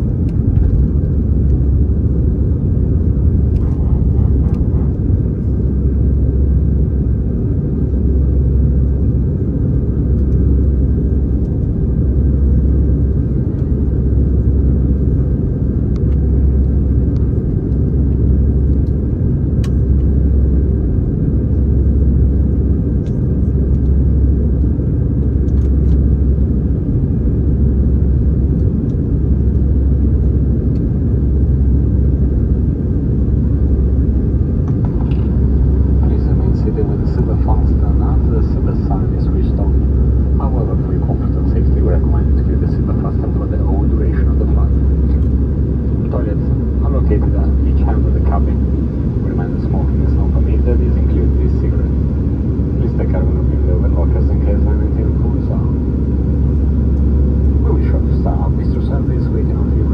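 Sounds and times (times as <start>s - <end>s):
jet engines rumbling in cabin: 0.0s - 59.9s.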